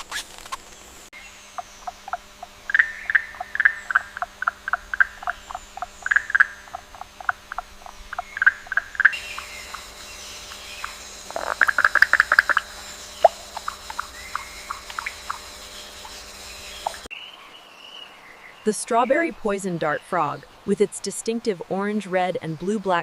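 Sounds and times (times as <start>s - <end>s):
frogs chirping: 0.7s - 20.7s.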